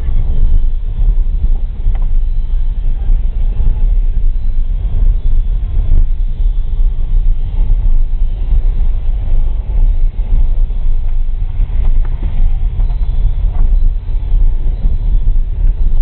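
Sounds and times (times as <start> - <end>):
car rumbling on dirt track: 0.0 - 16.0.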